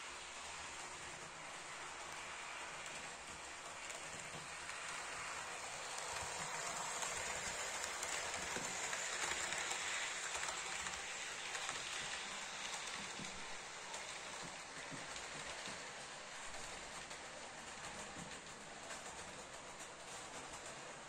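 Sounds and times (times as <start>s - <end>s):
model train wheels rattling on rail: 0.0s - 21.0s.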